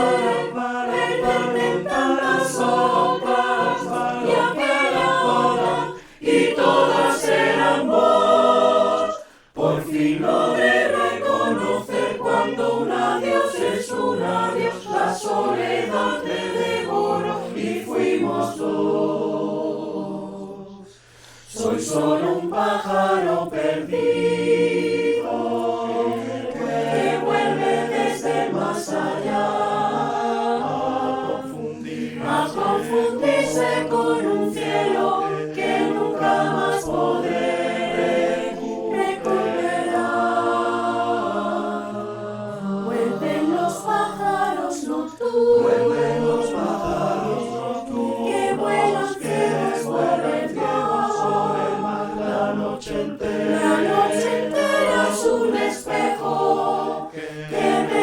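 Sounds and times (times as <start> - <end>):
mixed choir singing slowly: 0.0 - 58.0.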